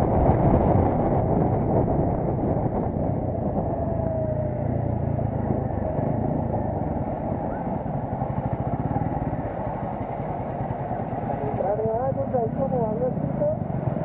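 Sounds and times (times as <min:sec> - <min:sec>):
motorcycle engine at low speed: 0:00.0 - 0:14.0.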